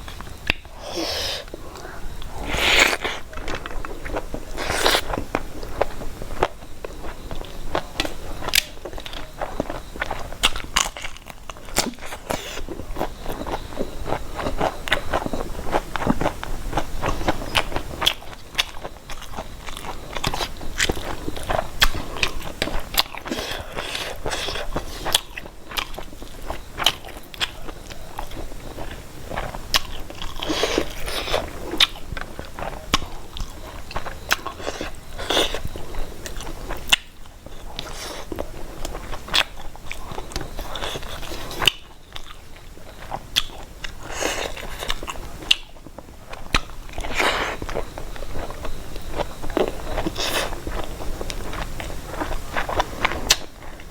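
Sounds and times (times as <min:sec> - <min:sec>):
close chewing and crunching: 0:00.0 - 0:53.9.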